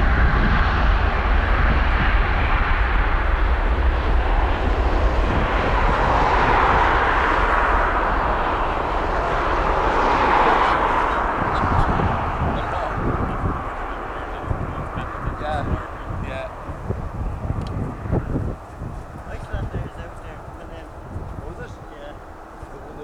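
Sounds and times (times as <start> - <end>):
jet engines at high thrust: 0.0 - 23.0.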